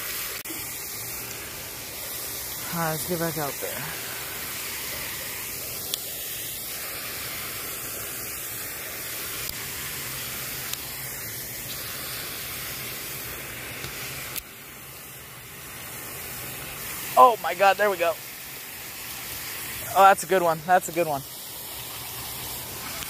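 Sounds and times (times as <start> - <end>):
fountain water spray hissing: 0.0 - 23.0.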